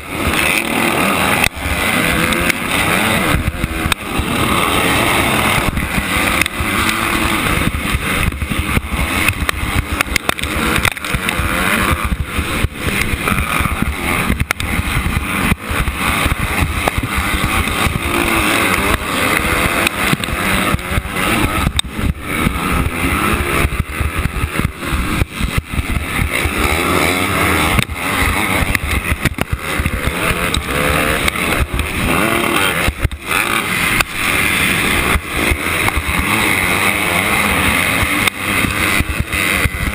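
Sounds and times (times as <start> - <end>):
dirt bike engine running hard: 0.0 - 39.9
other race bikes: 0.0 - 39.9.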